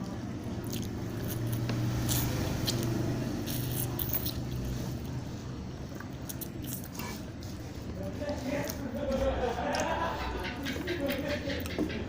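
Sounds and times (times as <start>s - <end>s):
biting and chewing food: 0.4s - 5.2s, 5.9s - 12.0s.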